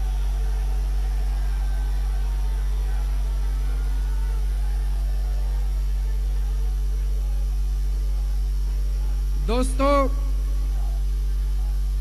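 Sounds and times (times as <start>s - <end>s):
faint distant crowd voices: 0.0s - 12.0s
loud low mains hum: 0.0s - 12.0s.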